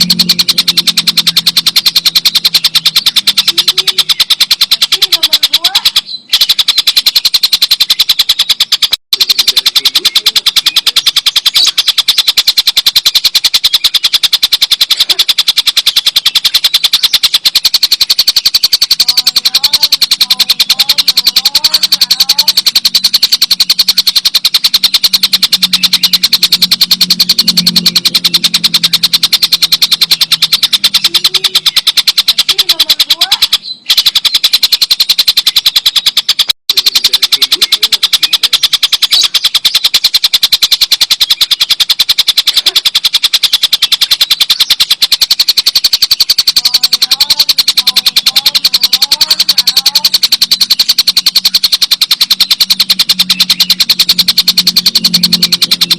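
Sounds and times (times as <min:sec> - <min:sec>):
kingfisher rattling call: 0:00.0 - 0:55.9.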